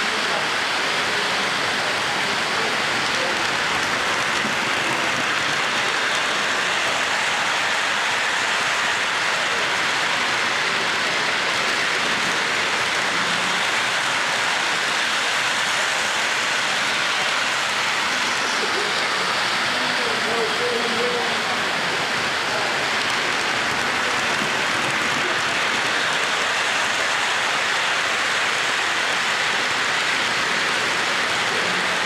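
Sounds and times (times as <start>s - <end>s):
model trains running on track: 0.0s - 32.0s.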